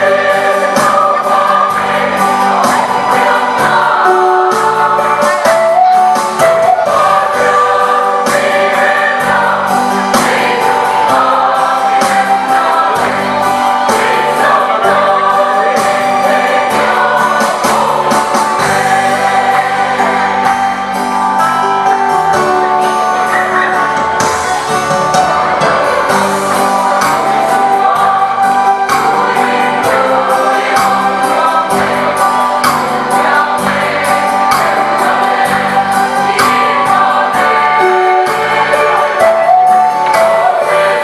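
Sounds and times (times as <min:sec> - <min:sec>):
mixed choir singing: 0:00.0 - 0:41.0.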